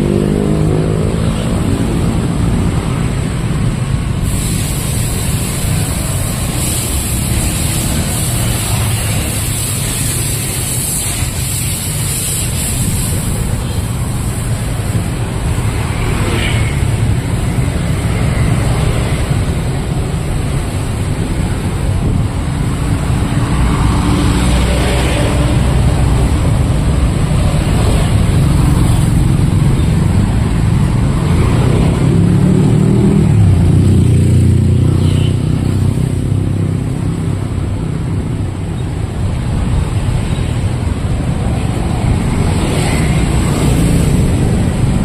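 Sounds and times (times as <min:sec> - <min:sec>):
low traffic rumble: 0:00.0 - 0:45.0
passing vehicles: 0:00.0 - 0:45.0.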